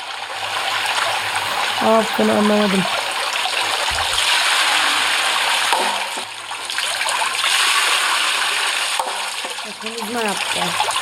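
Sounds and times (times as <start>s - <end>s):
water rushing and splashing: 0.4s - 11.0s.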